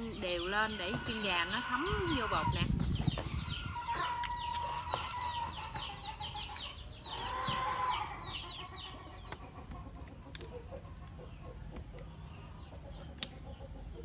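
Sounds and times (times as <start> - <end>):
chickens peeping: 0.0 - 14.0.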